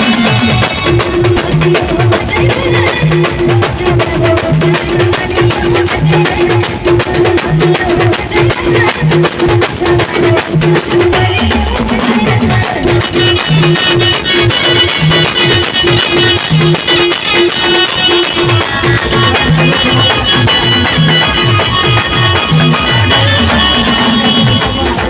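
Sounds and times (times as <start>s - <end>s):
fast percussion band music: 0.0s - 25.0s.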